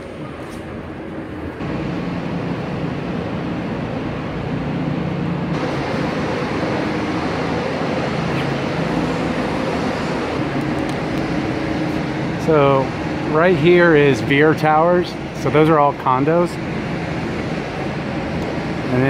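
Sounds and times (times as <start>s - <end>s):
tram running rumble: 0.0s - 19.0s.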